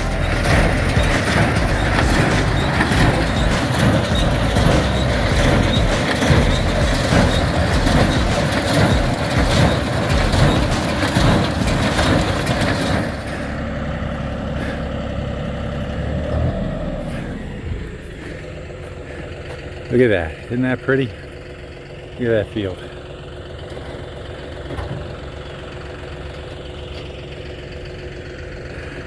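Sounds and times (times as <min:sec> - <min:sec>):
tractor and hay baler running: 0:00.0 - 0:29.0.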